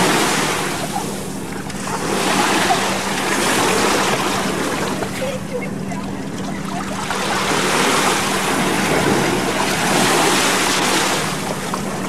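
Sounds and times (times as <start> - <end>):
waves: 0.0 - 12.0.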